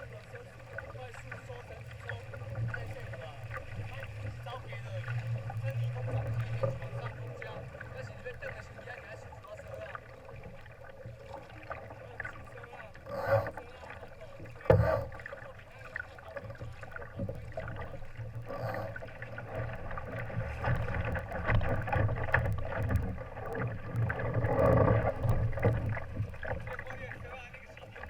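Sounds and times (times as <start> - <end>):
water splashing along hull: 0.0 - 28.0.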